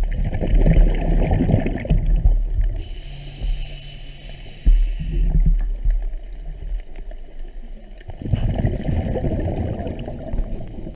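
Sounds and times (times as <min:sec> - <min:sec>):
low underwater rumbling: 0:00.0 - 0:10.9
scuba exhaust bubbles: 0:00.0 - 0:10.9.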